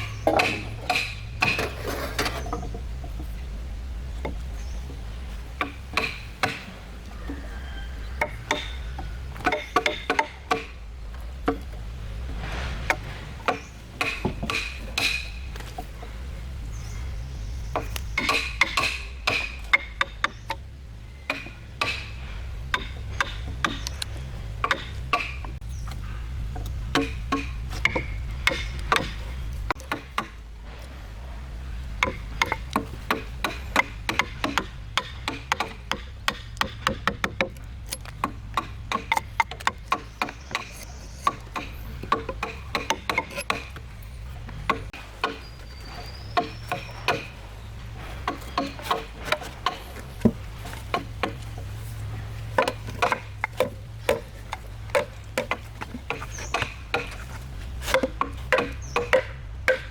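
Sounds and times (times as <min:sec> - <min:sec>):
tools knocking on wood: 0:00.0 - 0:03.4, 0:04.1 - 0:11.8, 0:13.4 - 0:16.0, 0:17.7 - 0:30.4, 0:32.0 - 0:59.9
low steady hum: 0:00.0 - 0:59.9.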